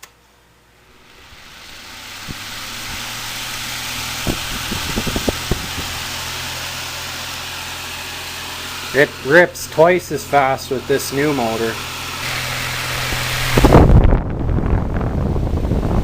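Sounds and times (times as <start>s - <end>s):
low motor hum: 0.0s - 16.0s
desk fan air rushing: 0.7s - 16.0s.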